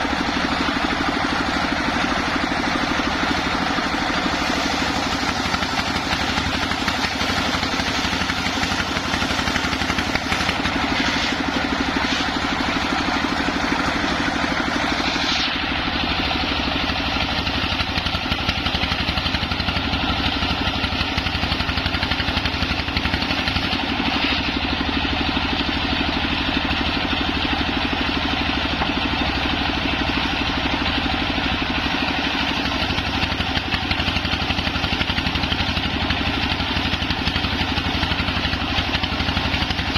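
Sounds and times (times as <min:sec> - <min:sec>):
circular saw engine droning: 0:00.0 - 0:39.9.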